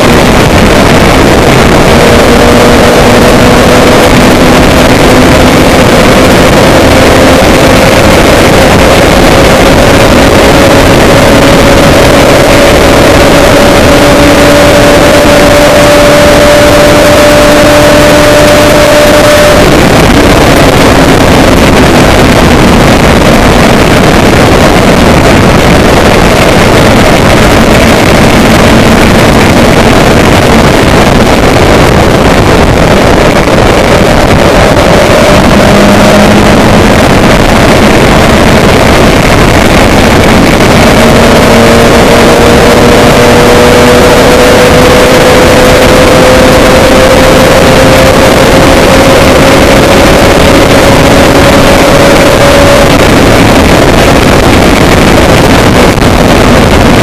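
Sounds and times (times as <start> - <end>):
vehicle wind and engine noise: 0.0 - 57.0.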